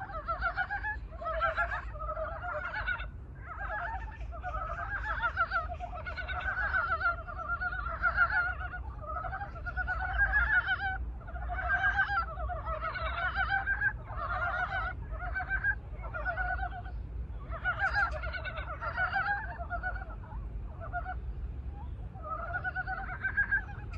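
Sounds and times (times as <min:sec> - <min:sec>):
frogs croaking in chorus: 0:00.0 - 0:23.9.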